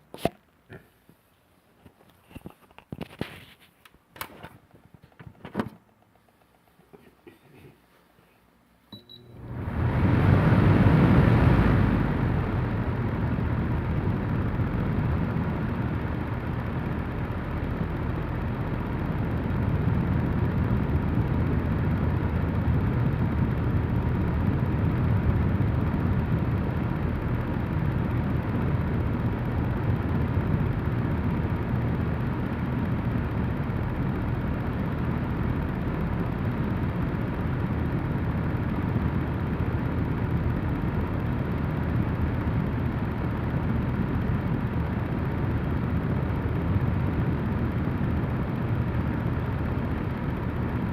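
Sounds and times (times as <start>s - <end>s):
air circulator fan blowing: 0.0s - 50.9s.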